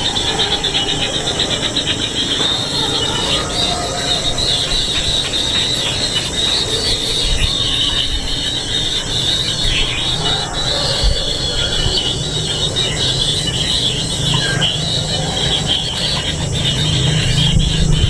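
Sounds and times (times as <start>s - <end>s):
nestlings begging chorus: 0.0s - 18.0s.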